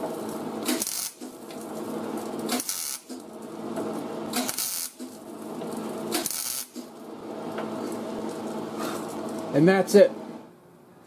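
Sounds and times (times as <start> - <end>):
welder crackling: 0.0 - 10.0.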